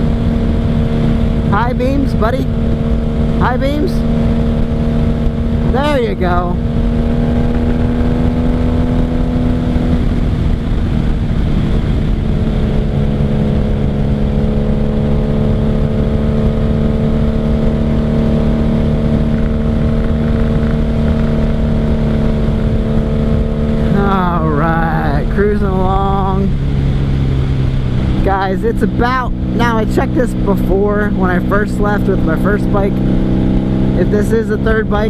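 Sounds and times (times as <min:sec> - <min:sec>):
motorcycle engine cruising: 0:00.0 - 0:35.0
wind rush: 0:00.0 - 0:35.0.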